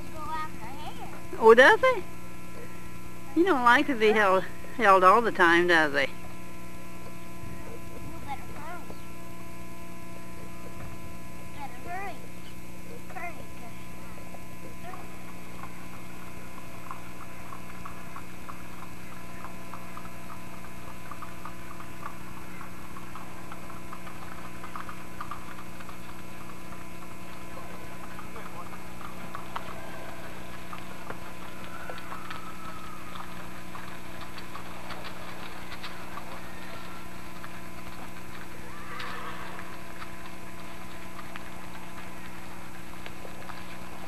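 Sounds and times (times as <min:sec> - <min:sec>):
electrical mains hum: 0:00.0 - 0:44.0
horse hoofbeats trotting on road: 0:03.3 - 0:44.0.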